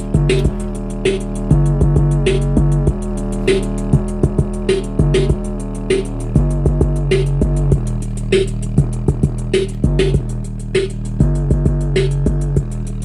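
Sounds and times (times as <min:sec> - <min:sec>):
electronic music with drum beat: 0:00.0 - 0:13.0.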